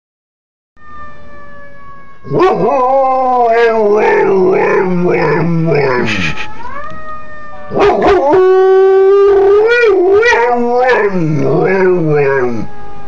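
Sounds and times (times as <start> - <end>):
dog howling like a siren: 2.2 - 13.0.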